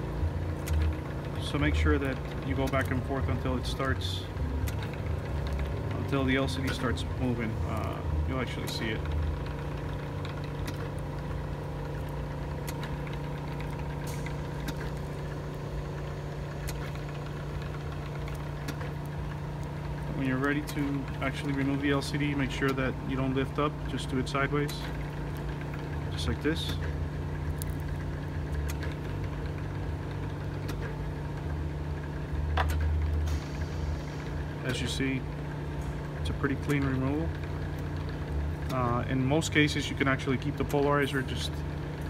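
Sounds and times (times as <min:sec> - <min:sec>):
machine humming: 0:00.0 - 0:42.0.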